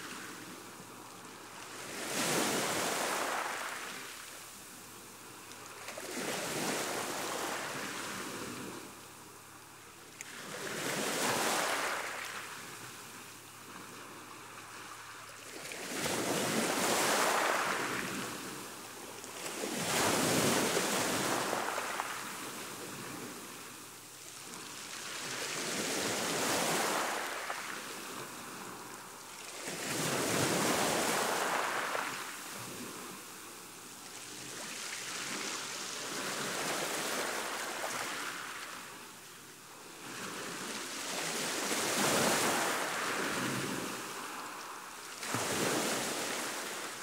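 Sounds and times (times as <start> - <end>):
waves surging and drawing back: 0.0 - 47.0.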